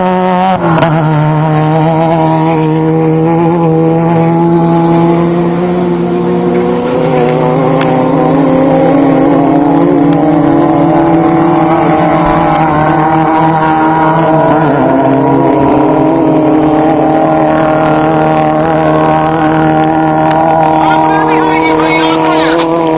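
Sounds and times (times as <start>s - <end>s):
race vehicle engines running: 0.0s - 22.9s.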